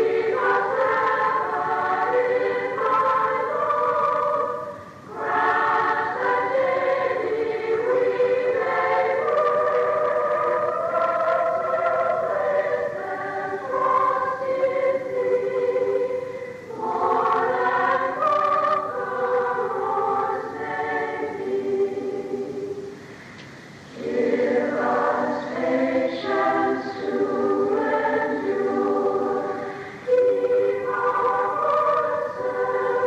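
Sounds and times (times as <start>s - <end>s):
women's choir singing a hymn: 0.0s - 33.0s.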